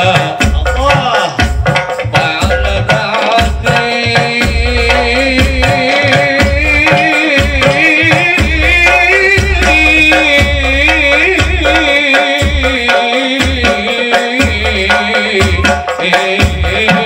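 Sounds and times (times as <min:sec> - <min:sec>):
frame drums beating: 0:00.0 - 0:17.0
voices singing through a pa: 0:00.0 - 0:17.0.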